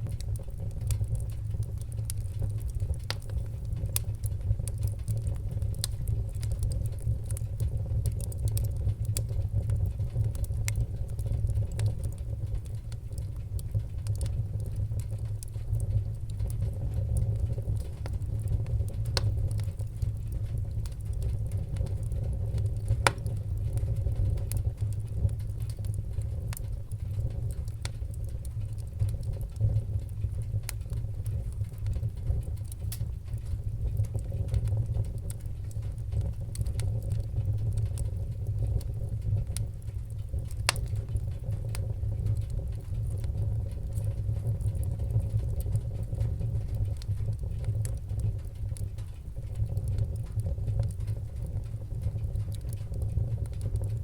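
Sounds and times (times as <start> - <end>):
low fire rumble: 0.0 - 54.0
wood fire crackling and popping: 0.0 - 54.0.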